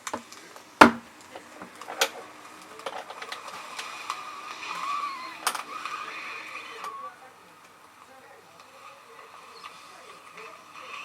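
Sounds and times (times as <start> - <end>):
machine whine: 1.4 - 11.0.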